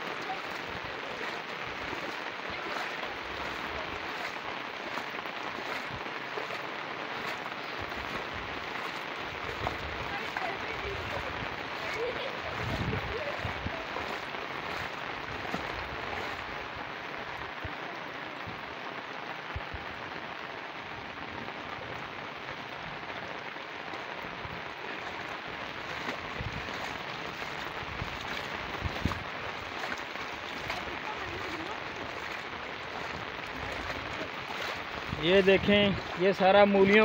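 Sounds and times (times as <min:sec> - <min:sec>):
heavy rain on flooded field: 0:00.0 - 0:37.0.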